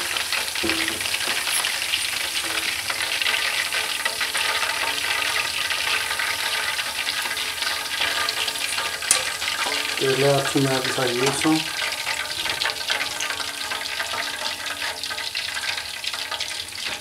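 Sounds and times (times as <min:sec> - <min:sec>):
oil sizzling with fine crackle: 0:00.0 - 0:17.0.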